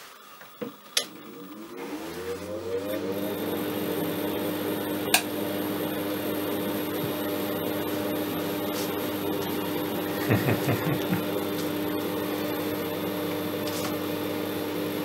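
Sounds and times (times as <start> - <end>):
electrical hum and buzz: 0.5 - 15.0.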